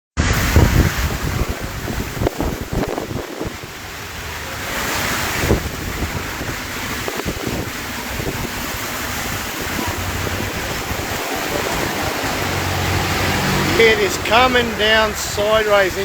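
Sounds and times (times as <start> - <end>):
heavy rain hissing: 0.2 - 16.0
wind gusts buffeting microphone: 0.2 - 16.0.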